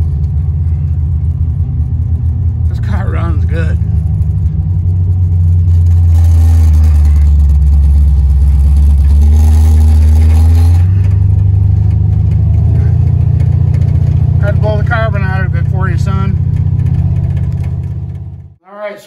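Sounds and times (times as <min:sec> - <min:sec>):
car engine under load: 0:00.0 - 0:18.6
deep exhaust rumble: 0:00.0 - 0:18.6.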